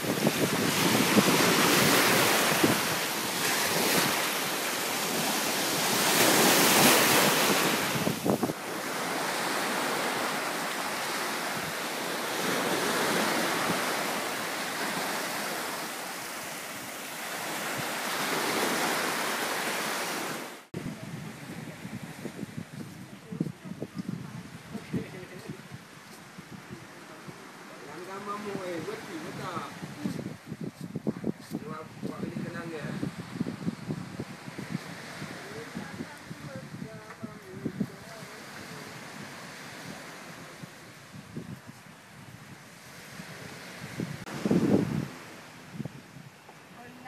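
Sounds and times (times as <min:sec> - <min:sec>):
wind buffeting microphone: 0:00.0 - 0:19.3, 0:20.7 - 0:27.6, 0:28.3 - 0:47.0
waves washing onto beach: 0:00.0 - 0:47.0.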